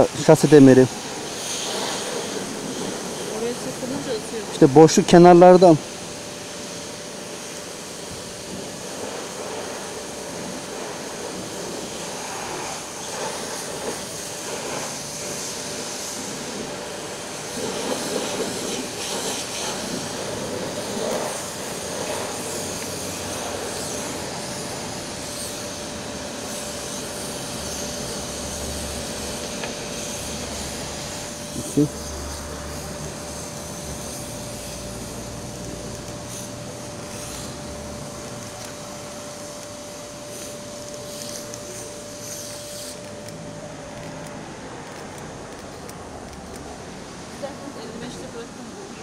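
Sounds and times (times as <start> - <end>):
fuel pump running: 0.0 - 48.2.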